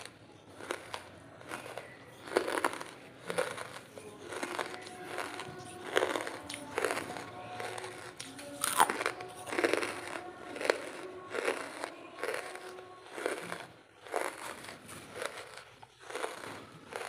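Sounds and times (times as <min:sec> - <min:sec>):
charcoal crunching and crackling: 0:00.0 - 0:17.0.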